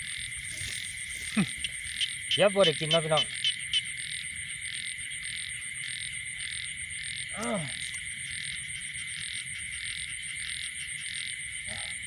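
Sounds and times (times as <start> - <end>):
fast insect trill: 0.0 - 12.0
frog calling: 0.0 - 12.0.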